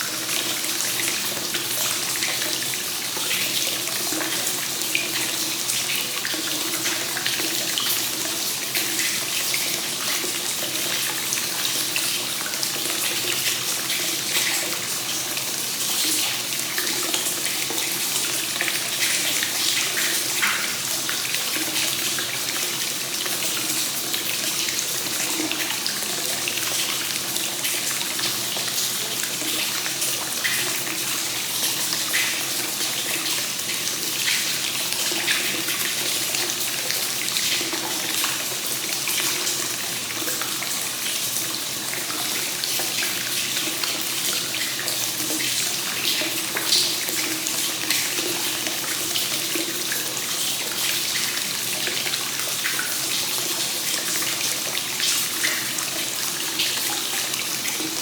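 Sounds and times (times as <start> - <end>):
water pouring into a bath: 0.0 - 58.0.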